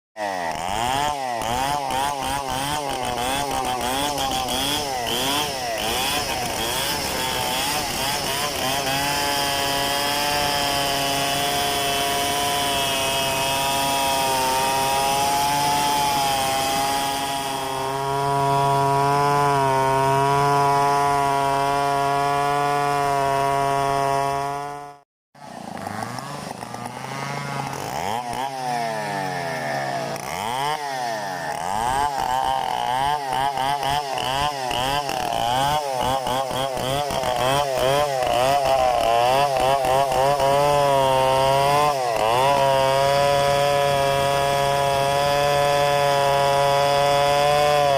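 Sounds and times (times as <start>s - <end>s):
chainsaw cutting a log: 0.2s - 47.9s.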